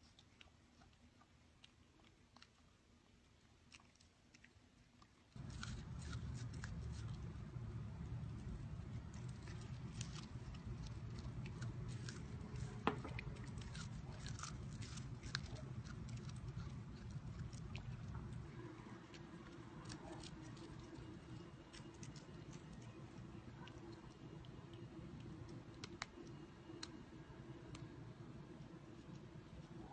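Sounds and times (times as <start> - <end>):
cat chewing crunchily: 0.0 - 29.9
low steady hum: 0.0 - 29.9.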